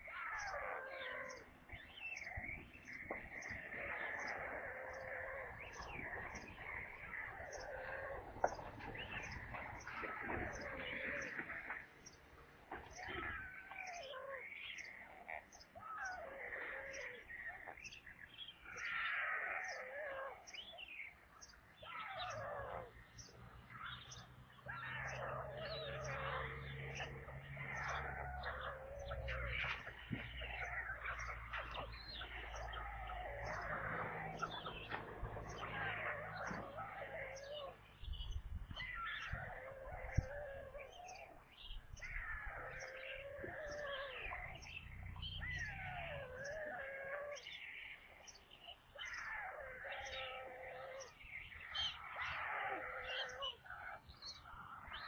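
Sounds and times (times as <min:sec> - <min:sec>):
small bird chirping: 0:00.0 - 0:12.2, 0:12.8 - 0:55.0
stork chicks begging calls: 0:00.0 - 0:55.0.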